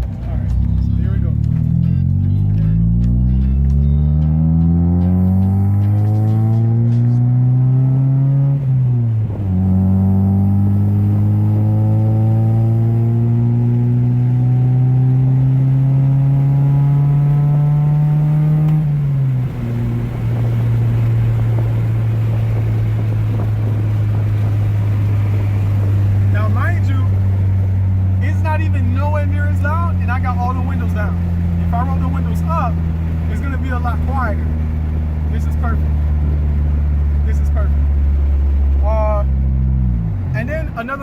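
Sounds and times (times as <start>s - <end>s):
car engine accelerating: 0.0s - 41.0s.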